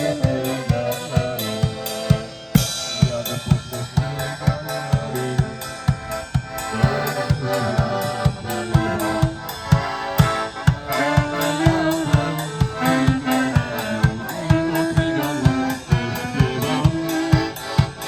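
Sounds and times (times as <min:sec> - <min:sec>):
held-note melody: 0:00.0 - 0:18.0
steady drum beat: 0:00.0 - 0:18.0.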